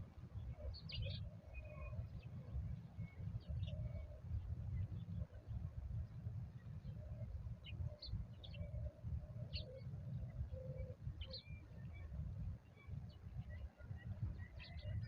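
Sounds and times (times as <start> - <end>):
wild birds chirping: 0.3 - 5.6, 6.5 - 15.0.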